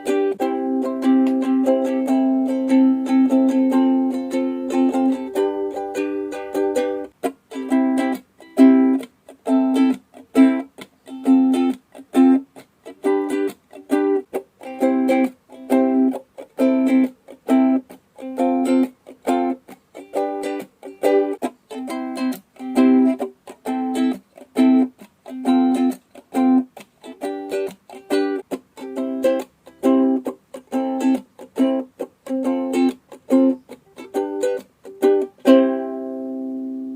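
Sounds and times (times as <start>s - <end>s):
ukulele strumming: 0.0s - 36.9s.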